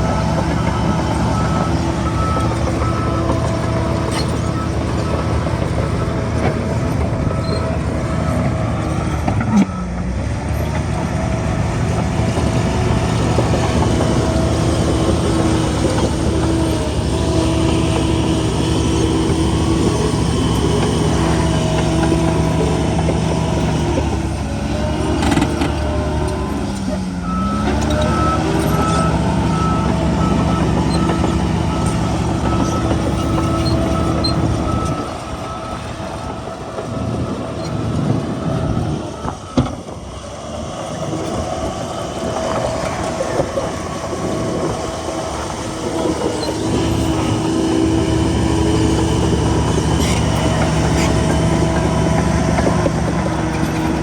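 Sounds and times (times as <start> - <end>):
bulldozer diesel engine: 0.0 - 54.0
reversing alarm beeping: 0.0 - 54.0.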